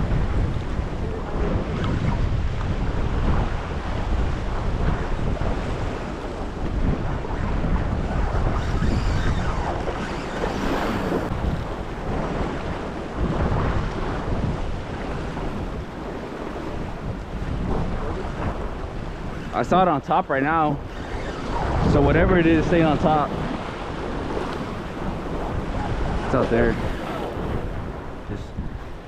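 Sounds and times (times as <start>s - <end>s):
waves washing against jetty: 0.0s - 29.0s
wind buffeting microphone: 0.0s - 29.0s.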